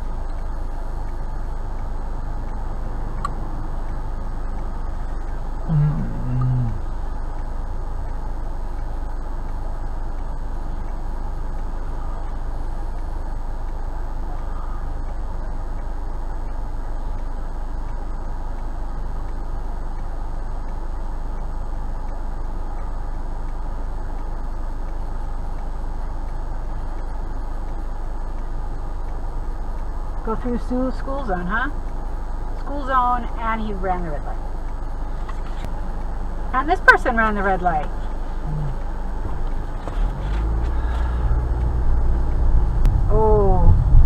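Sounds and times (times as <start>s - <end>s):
car road and engine rumble: 0.0s - 44.0s.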